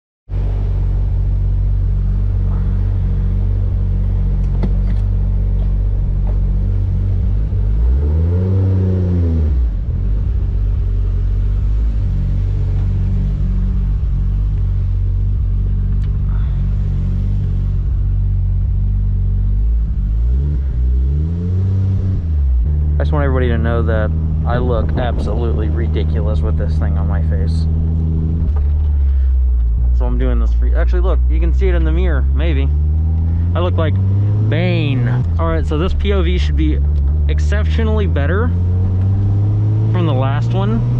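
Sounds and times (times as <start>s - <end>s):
car engine revving: 0.3s - 40.9s.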